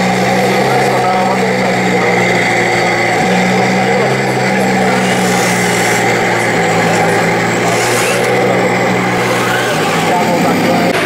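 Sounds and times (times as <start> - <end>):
toy tank engines humming: 0.0 - 11.0.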